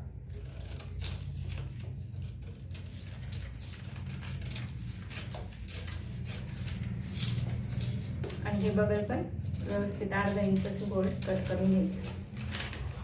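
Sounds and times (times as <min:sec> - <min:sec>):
scissors snipping newspaper: 0:00.0 - 0:13.0
paper rustling: 0:00.2 - 0:13.0.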